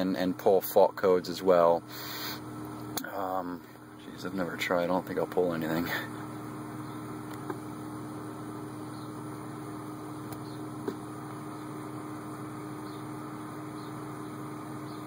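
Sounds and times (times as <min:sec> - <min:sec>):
car cabin engine hum idling: 0:00.0 - 0:15.0.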